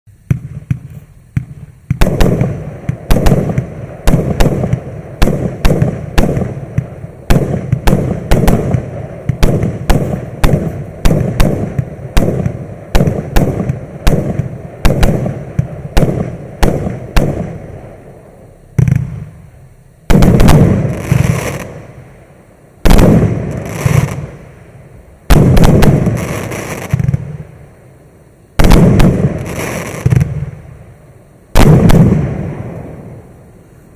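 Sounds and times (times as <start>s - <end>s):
rapid firework shots: 0.2s - 22.0s, 22.8s - 24.5s, 25.3s - 27.5s, 28.6s - 30.7s, 31.5s - 33.2s
big firework bangs: 0.2s - 27.6s, 28.5s - 33.9s.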